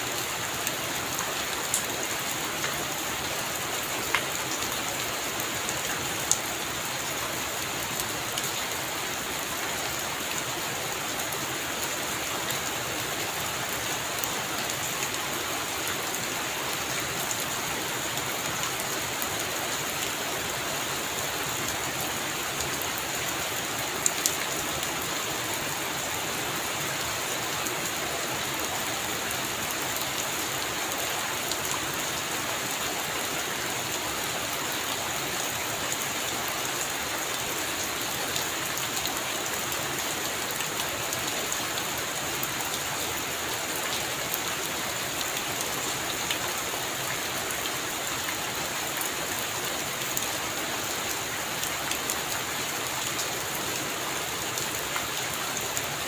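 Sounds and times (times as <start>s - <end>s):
sharp raindrops: 0.0s - 56.0s.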